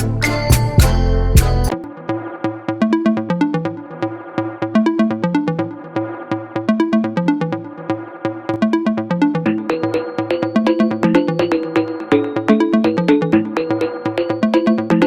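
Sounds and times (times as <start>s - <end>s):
electronic music with steady beat: 0.0s - 15.0s.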